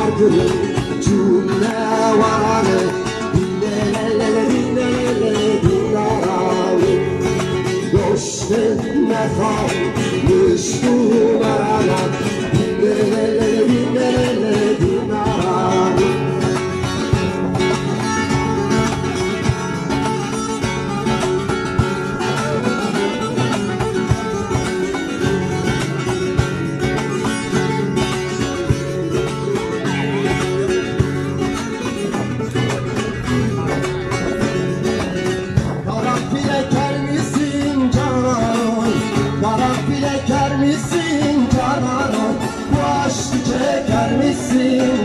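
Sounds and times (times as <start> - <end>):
sharp percussive taps: 0.0 - 43.5
plucked string folk dance music: 0.0 - 45.0.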